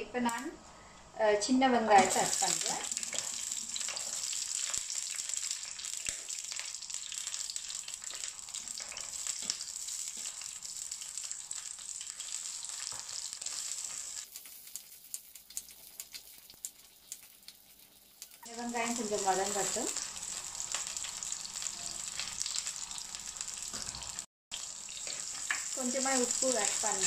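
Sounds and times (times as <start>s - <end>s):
shallots sizzling in oil: 1.8s - 27.0s.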